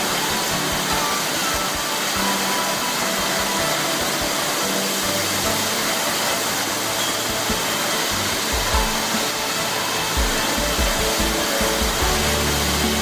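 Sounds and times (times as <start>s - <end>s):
bottle washing machine hissing: 0.0s - 13.0s.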